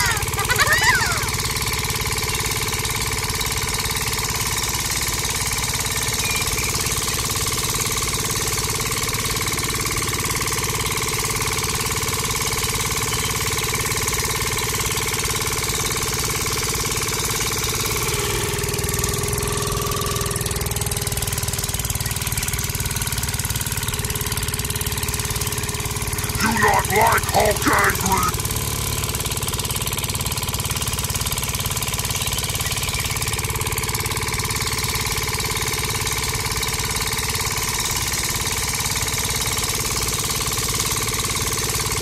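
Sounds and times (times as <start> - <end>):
small tractor engine chugging: 0.0 - 42.0.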